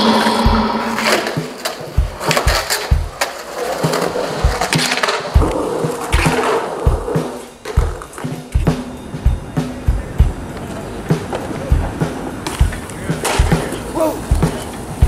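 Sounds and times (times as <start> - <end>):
music with drum beat: 0.0 - 15.0
skateboard wheels rolling on concrete: 1.0 - 15.0.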